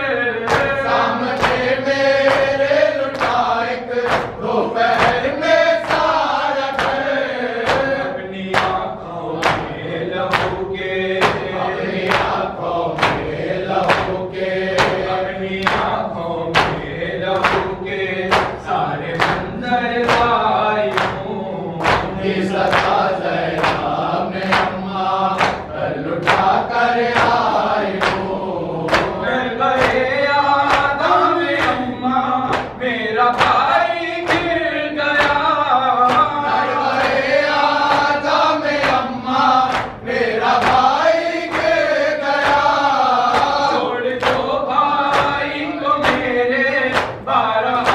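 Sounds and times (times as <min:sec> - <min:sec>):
group chanting in unison: 0:00.0 - 0:47.9
hands beating chests: 0:00.5 - 0:47.9.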